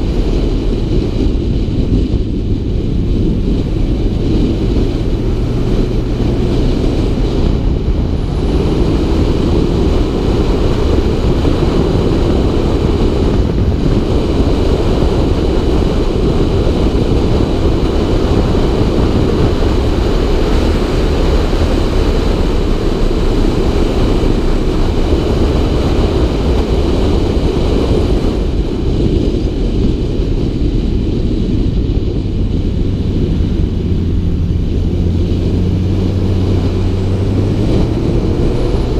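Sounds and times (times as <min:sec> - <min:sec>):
motorcycle engine running: 0:00.0 - 0:38.9
wind rumble: 0:00.0 - 0:38.9.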